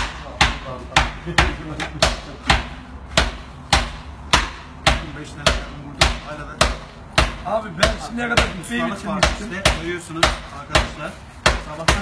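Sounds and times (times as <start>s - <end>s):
hammers knocking on wooden board: 0.0s - 12.0s.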